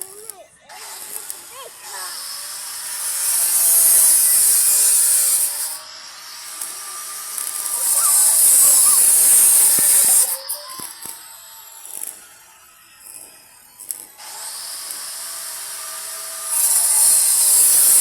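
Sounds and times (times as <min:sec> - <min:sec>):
welding arc hissing and crackling: 0:00.0 - 0:18.0.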